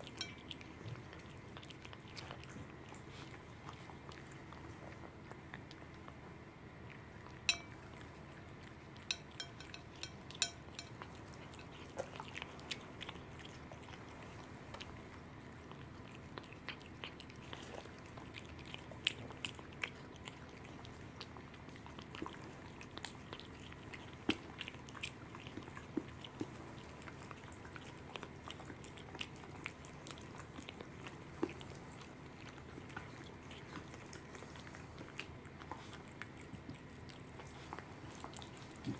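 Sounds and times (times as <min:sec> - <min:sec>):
cat chewing and licking: 0:00.0 - 0:38.9.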